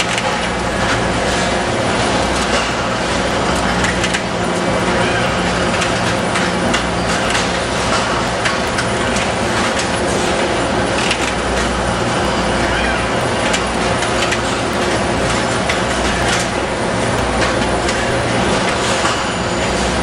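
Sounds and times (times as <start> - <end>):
machinery din: 0.0 - 20.0.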